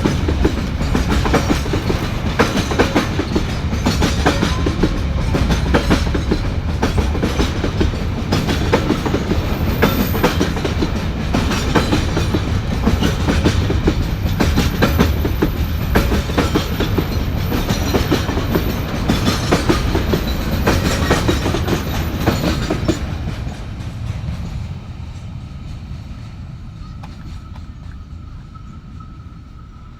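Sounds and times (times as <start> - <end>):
train wheels clacking over rail joints: 0.0 - 29.7.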